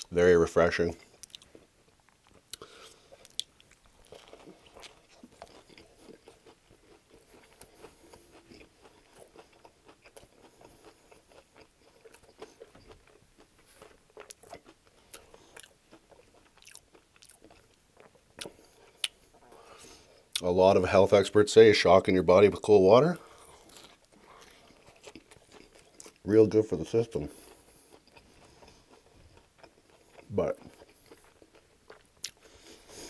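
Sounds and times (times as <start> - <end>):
chewing with crunches: 0.0 - 20.9, 22.2 - 33.0.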